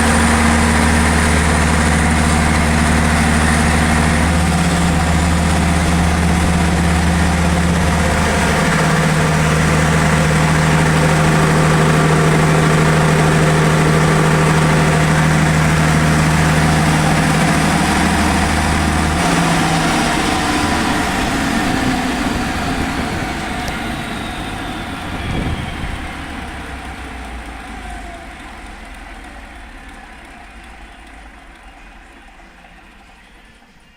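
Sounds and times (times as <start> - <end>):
whine falling in pitch: 0.0 - 33.6
diesel generator running: 0.0 - 33.9.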